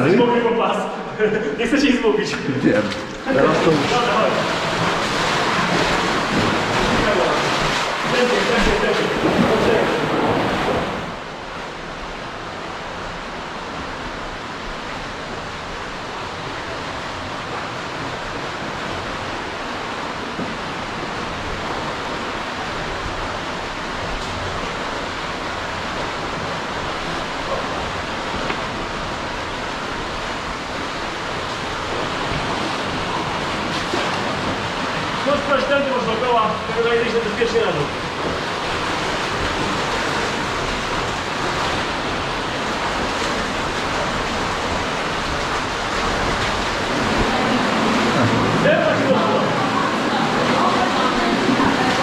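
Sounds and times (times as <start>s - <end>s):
underground river rushing: 0.0s - 52.0s.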